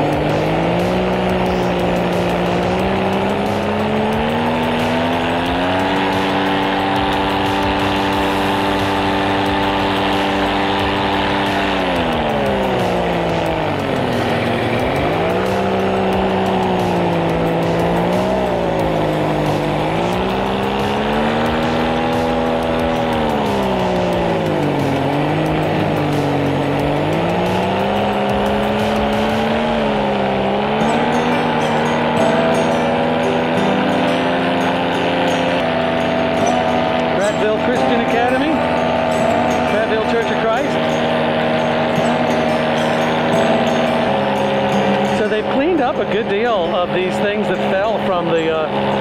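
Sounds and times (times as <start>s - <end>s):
paramotor engine and propeller: 0.0s - 49.0s.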